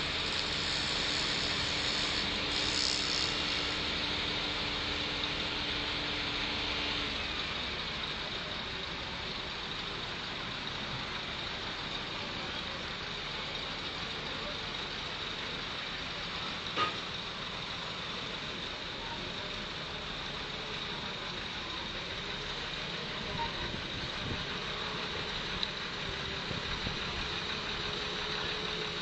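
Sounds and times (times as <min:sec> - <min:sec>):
piling rig engine running: 0:00.0 - 0:29.0.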